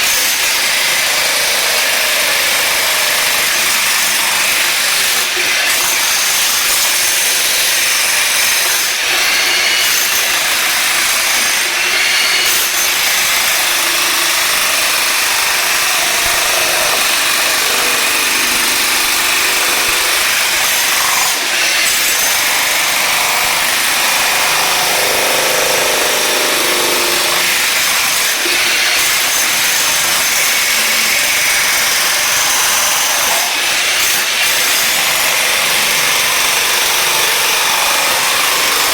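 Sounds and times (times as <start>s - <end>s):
electric jackhammer chipping flooring: 0.0s - 38.9s.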